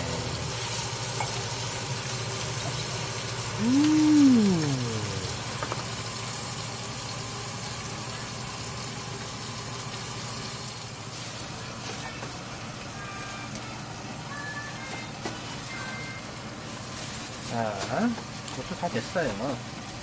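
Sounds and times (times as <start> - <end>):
oil sizzling in frying pan: 0.0 - 20.0.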